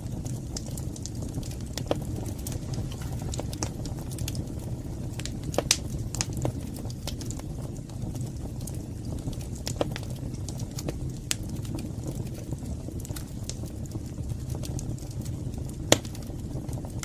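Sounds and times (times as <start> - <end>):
fire popping and snapping: 0.0 - 17.0
wood fire rumbling: 0.0 - 17.0.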